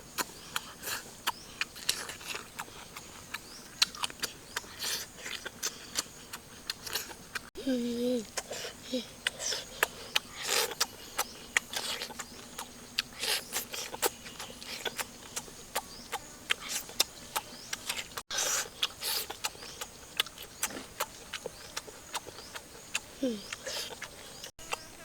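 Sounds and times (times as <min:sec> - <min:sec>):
wet chewing: 0:00.1 - 0:07.5, 0:08.2 - 0:24.9.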